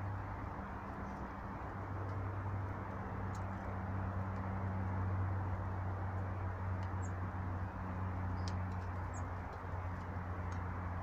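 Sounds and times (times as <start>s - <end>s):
low hum and rushing noise: 0.0s - 11.0s.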